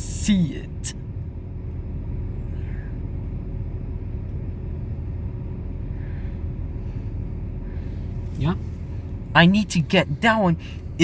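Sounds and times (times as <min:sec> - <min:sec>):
car engine low rumble: 0:00.0 - 0:11.0
faint steady hum: 0:00.0 - 0:11.0.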